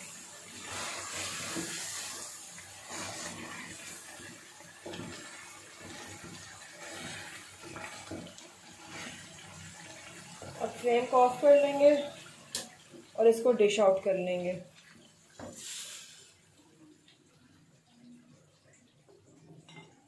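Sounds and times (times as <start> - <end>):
chicken sizzling in oil: 0.0 - 17.7.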